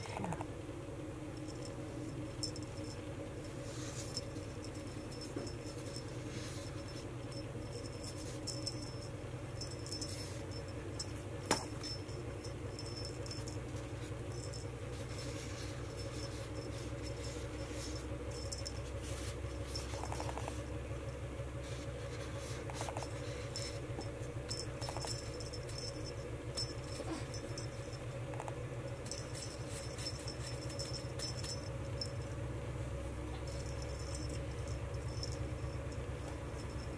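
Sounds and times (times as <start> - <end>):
steady low hum: 0.0 - 36.9
feather wand toy rustling and jingling: 1.4 - 36.9.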